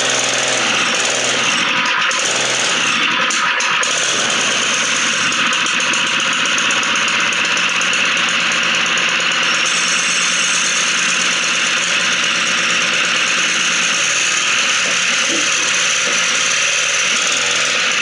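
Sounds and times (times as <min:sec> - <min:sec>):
mini bike engine running: 0:00.0 - 0:18.0.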